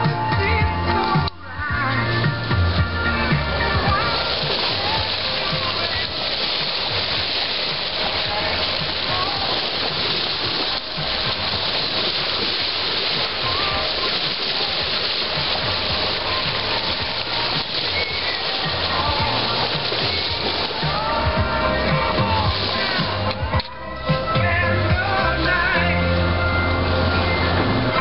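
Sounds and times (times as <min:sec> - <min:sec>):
water rushing along boat hull: 0:00.0 - 0:28.0.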